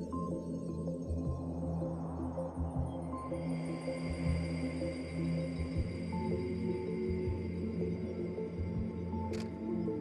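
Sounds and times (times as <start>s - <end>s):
ambient music with sustained tones: 0.0s - 10.0s.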